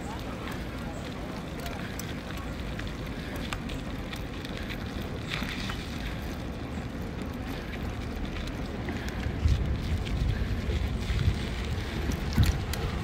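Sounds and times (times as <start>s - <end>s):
bicycle tyre noise: 0.0s - 13.0s
wind over microphone: 0.0s - 13.0s.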